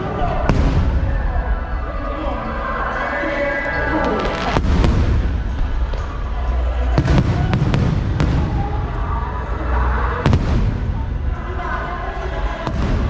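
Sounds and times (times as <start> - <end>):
fireworks bangs: 0.0 - 2.6, 3.7 - 13.0
low rumbling booms: 0.0 - 2.7, 4.2 - 13.0
music: 0.0 - 13.0.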